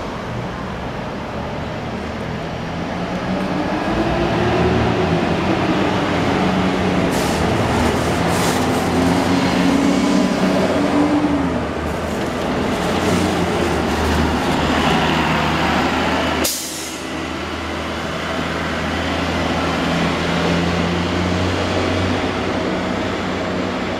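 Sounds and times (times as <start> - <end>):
bus engine running: 0.0 - 23.9
street noise: 0.0 - 23.9.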